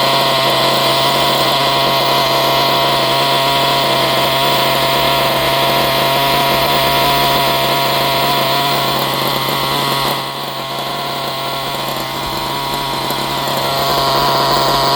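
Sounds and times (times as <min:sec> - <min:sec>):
model car engine running: 0:00.0 - 0:14.9.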